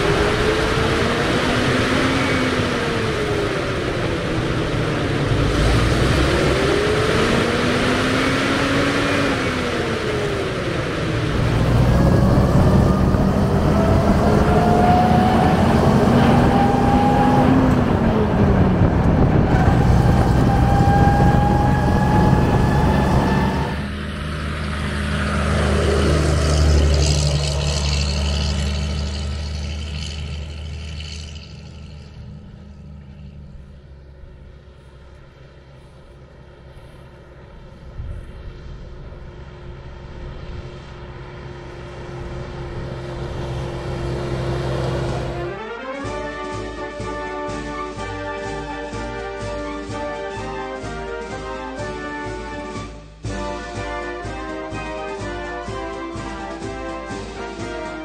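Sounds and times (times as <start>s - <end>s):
truck engine whining under load: 0.0s - 58.0s.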